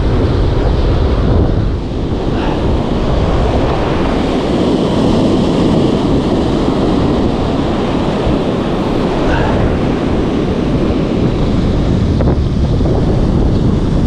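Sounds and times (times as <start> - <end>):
surf breaking over rocks: 0.0 - 14.0
wind buffeting microphone: 0.0 - 14.0.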